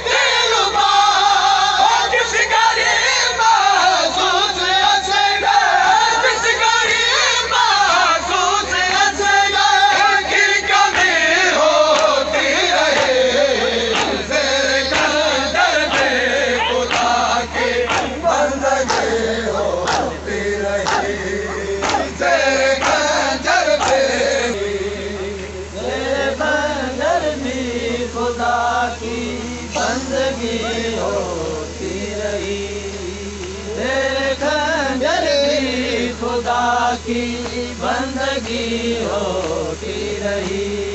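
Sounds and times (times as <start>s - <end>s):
men chanting in unison: 0.0s - 40.9s
steady low hum: 0.0s - 40.9s.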